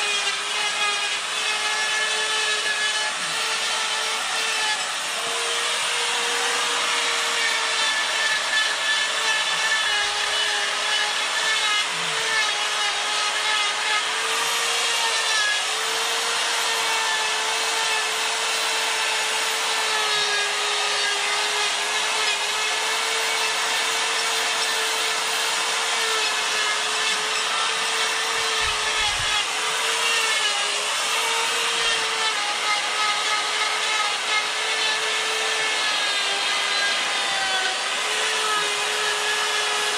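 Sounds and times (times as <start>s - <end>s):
die grinder grinding wood: 0.0s - 39.9s.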